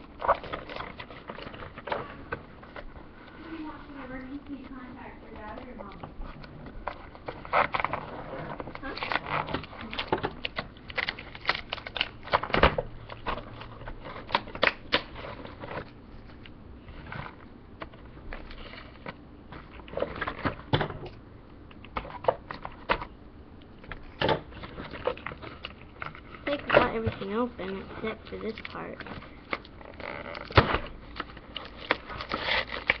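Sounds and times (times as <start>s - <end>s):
cardboard and plastic tearing: 0.0s - 21.0s, 23.8s - 33.0s.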